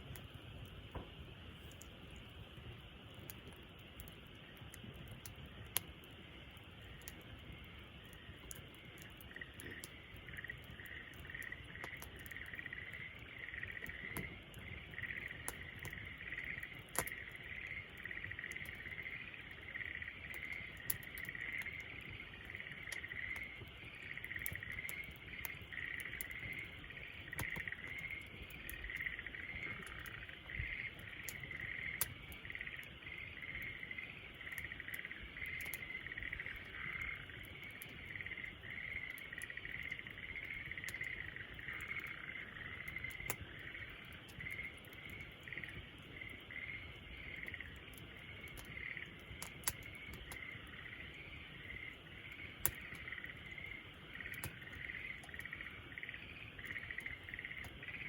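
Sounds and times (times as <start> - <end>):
wood fire crackling and popping: 0.0 - 58.0
insects chirping: 0.1 - 58.0.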